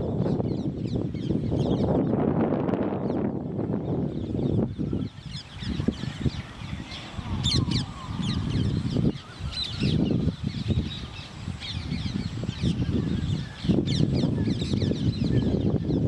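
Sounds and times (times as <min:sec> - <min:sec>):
birds chirping: 0:00.0 - 0:16.0
low gliding bird calls: 0:03.0 - 0:16.0.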